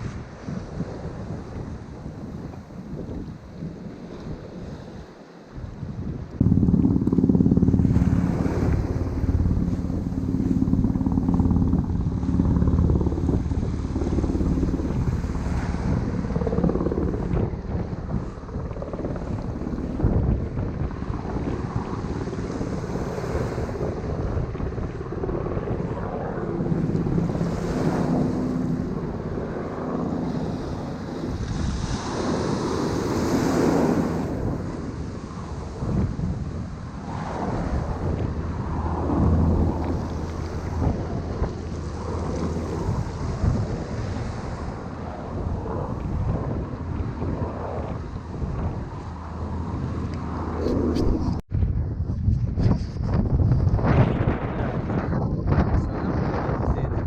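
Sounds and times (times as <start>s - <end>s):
wind buffeting microphone: 0.0s - 57.0s
helicopter engine and rotor drone: 5.6s - 57.0s.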